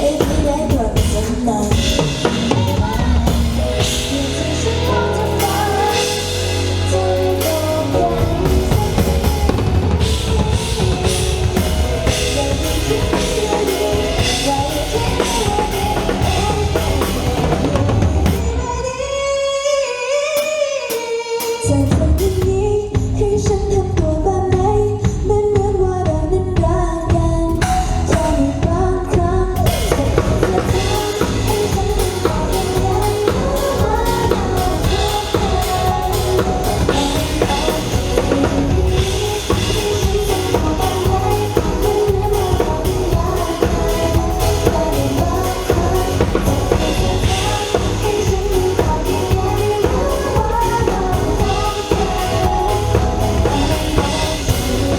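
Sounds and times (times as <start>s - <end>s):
steady drum beat: 0.0s - 18.6s, 22.0s - 54.9s
bass: 0.0s - 19.9s, 21.6s - 54.9s
person singing: 0.0s - 54.9s.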